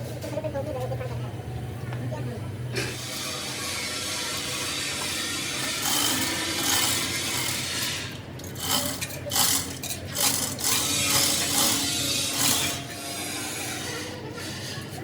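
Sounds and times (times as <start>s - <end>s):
tools scraping metal parts: 2.9s - 15.0s.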